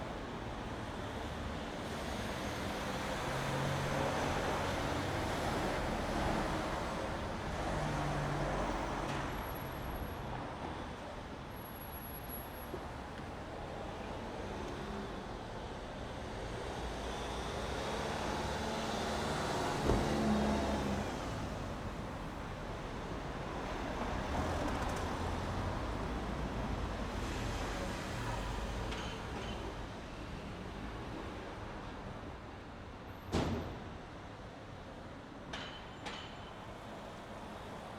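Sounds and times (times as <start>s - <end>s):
cars and buses passing: 0.0s - 37.9s.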